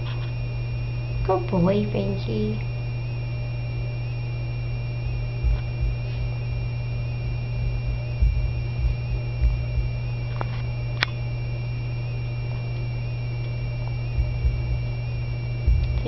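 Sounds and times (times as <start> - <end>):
electrical hum: 0.0 - 16.0
faint high whine: 0.0 - 16.0
soft low thumps: 0.0 - 16.0.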